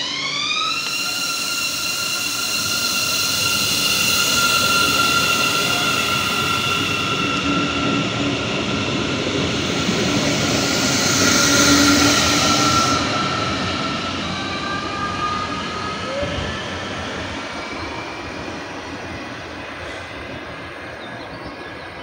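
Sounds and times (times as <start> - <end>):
electric train whine: 0.0 - 22.0.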